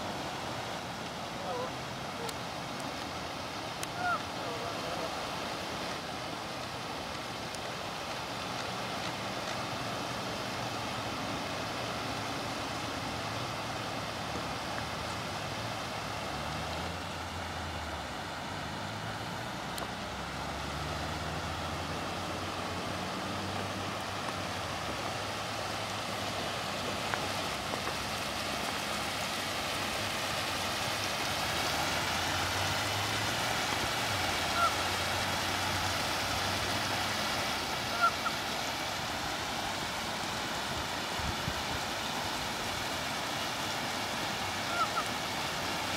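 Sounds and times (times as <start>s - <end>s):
road traffic rumble: 0.0s - 45.9s.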